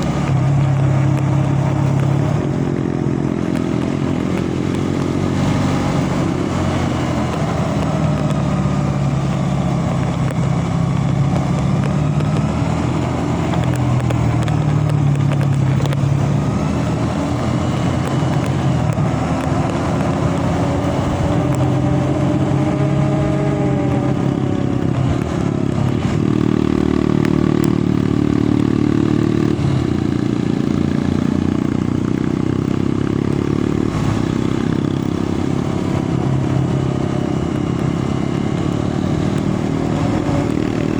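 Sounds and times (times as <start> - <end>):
road noise: 0.0 - 40.9
vehicle engine running: 0.0 - 40.9.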